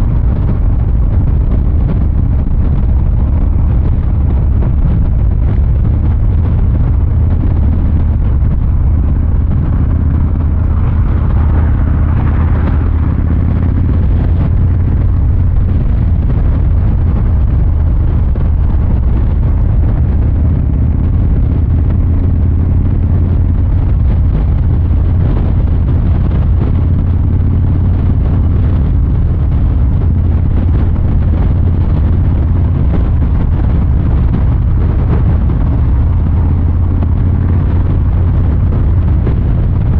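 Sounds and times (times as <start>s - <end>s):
motorcycle exhaust rumble: 0.0s - 39.9s.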